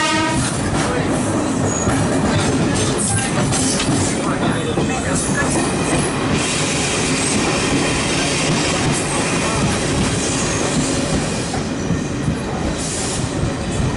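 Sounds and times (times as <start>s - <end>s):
train wheels running on rails: 0.0s - 13.9s.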